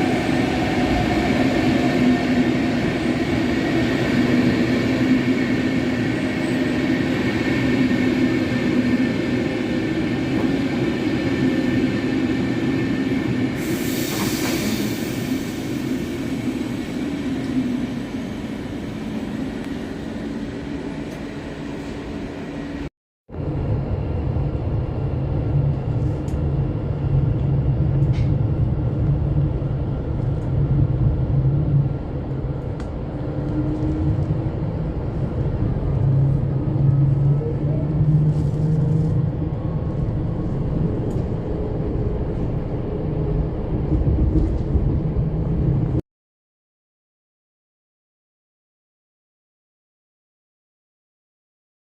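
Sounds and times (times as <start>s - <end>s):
train low rumble: 0.0s - 46.0s.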